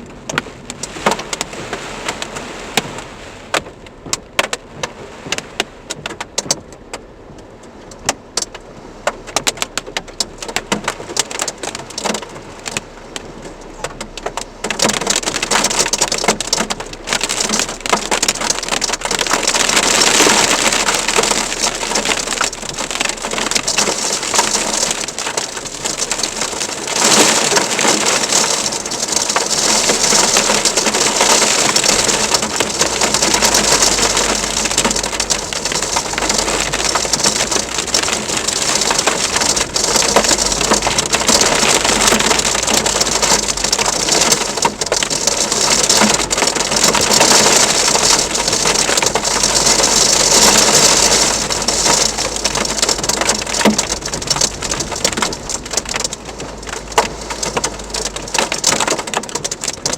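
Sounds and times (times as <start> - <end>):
heavy rain and hail pelting: 0.0 - 6.9, 7.8 - 59.9.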